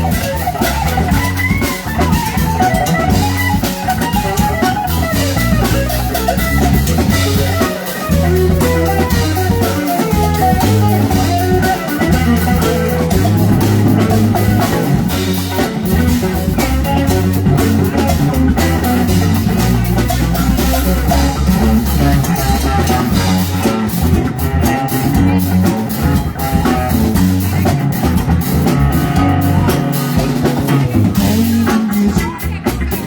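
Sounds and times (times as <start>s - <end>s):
bass guitar: 0.0s - 33.0s
drum kit: 0.0s - 33.0s
electric guitar: 0.0s - 33.0s.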